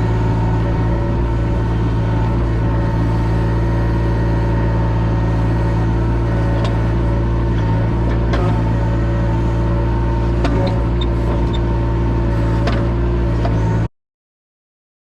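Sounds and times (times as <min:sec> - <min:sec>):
excavator diesel engine running: 0:00.0 - 0:13.9.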